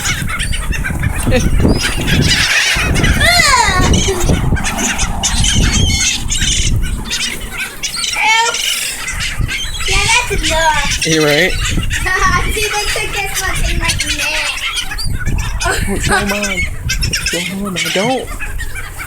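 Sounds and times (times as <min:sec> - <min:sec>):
gulls squawking: 0:00.0 - 0:19.0
wind rumble: 0:00.0 - 0:19.0.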